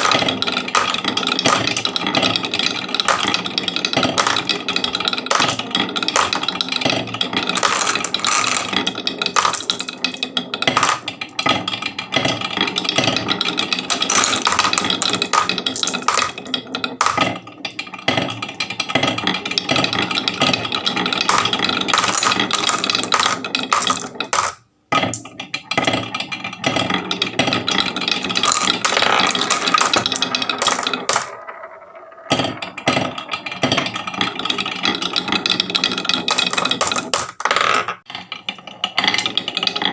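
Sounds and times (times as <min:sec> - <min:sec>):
marbles rattling down wooden run: 0:00.0 - 0:39.9.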